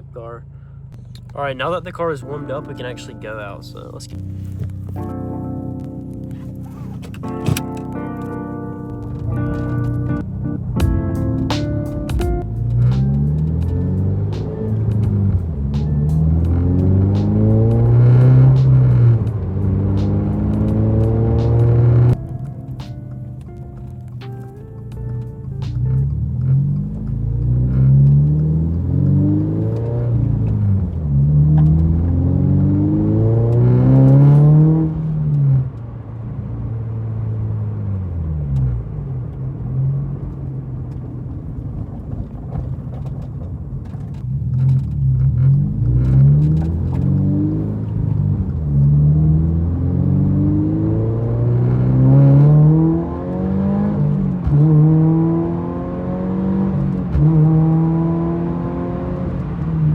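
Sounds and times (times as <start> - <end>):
car engine accelerating through gears: 3.8 - 59.9.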